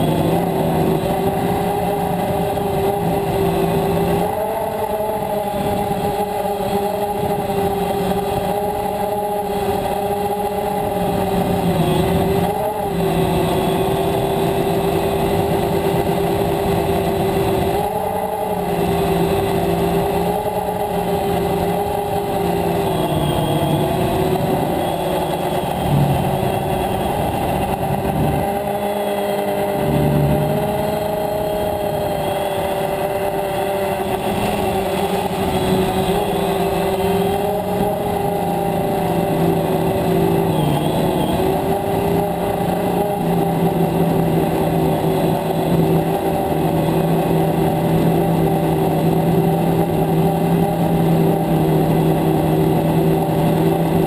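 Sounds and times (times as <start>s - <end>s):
drone motors buzzing whine: 0.0s - 54.0s.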